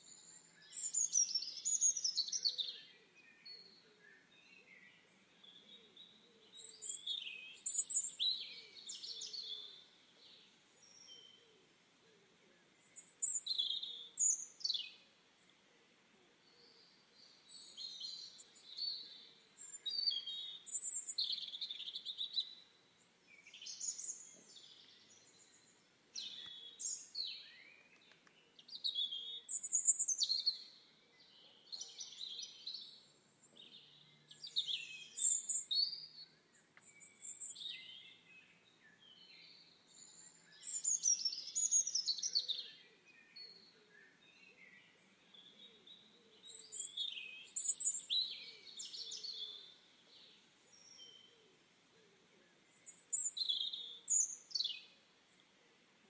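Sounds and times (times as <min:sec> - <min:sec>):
songbirds chirping and singing: 0:00.0 - 0:56.0
faint steady hiss: 0:04.0 - 0:41.9, 0:43.0 - 0:56.0.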